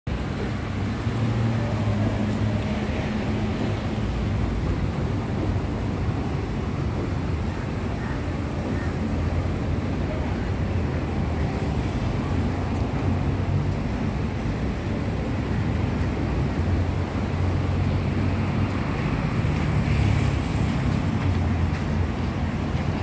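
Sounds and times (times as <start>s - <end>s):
traffic hum: 0.1s - 23.0s.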